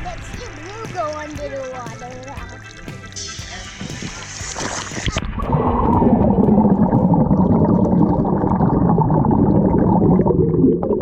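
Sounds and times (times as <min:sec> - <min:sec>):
underwater rumble and gurgling: 0:00.0 - 0:11.0.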